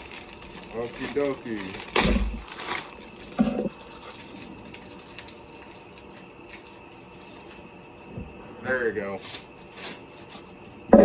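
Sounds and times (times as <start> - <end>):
plastic packaging crinkling: 0.0 - 8.1, 9.2 - 11.0.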